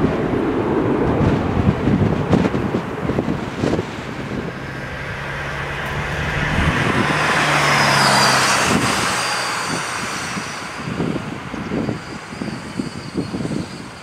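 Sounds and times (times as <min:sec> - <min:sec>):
jet engines roaring: 0:00.0 - 0:14.0
high jet whine: 0:00.8 - 0:14.0.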